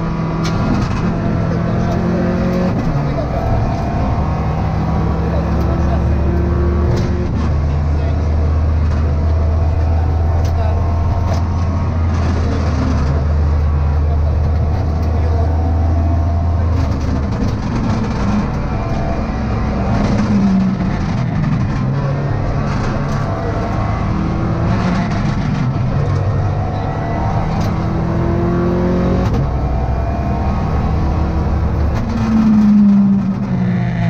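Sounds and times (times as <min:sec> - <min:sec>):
car engine revving: 0:00.0 - 0:34.0
road noise: 0:00.0 - 0:34.0.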